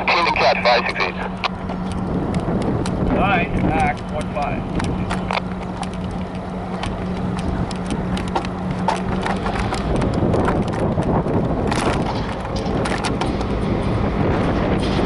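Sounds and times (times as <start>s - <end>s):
steady hum: 0.0s - 15.0s
train cars rumbling: 0.0s - 15.0s
wheels and couplers knocking: 0.0s - 15.0s.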